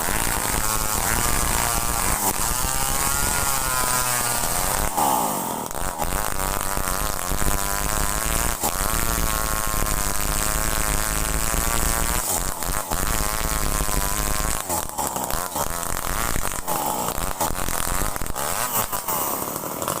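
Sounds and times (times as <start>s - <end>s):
chainsaw cutting timber: 0.0s - 20.0s.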